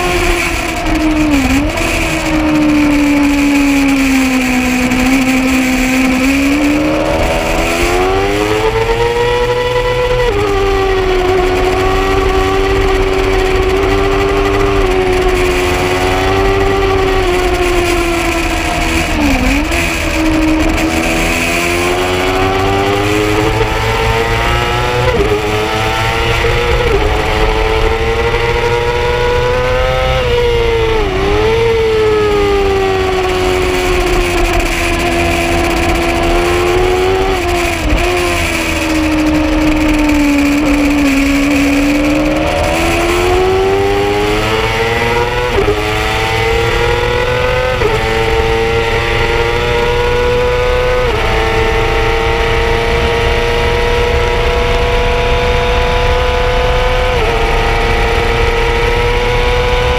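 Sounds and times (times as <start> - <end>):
gear changes: 0.0 - 59.9
motorcycle engine at high revs: 0.0 - 59.9
wind rush: 0.0 - 59.9.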